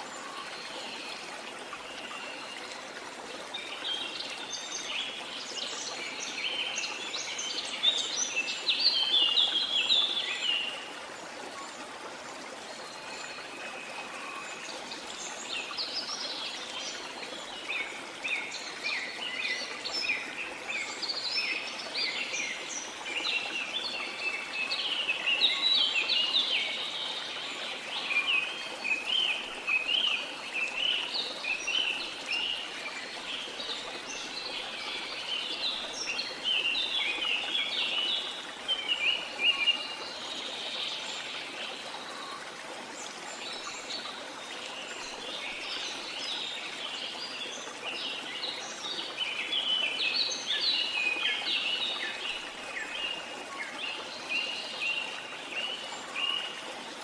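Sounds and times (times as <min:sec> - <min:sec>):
flowing water: 0:00.0 - 0:57.0.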